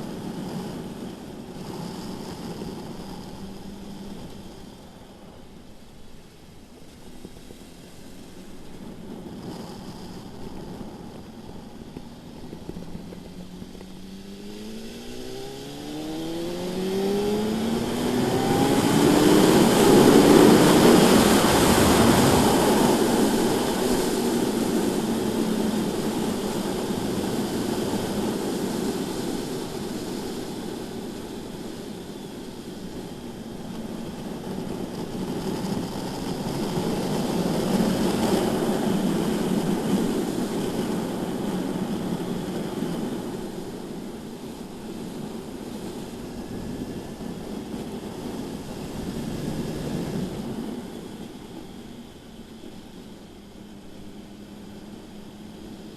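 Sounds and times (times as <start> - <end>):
motorcycle engine accelerating: 0.0 - 52.0
wind rush over microphone: 0.0 - 55.9.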